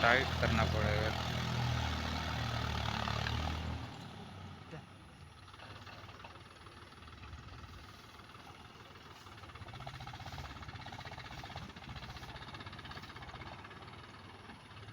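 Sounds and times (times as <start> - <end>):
diesel tractor engine running: 0.0 - 14.9.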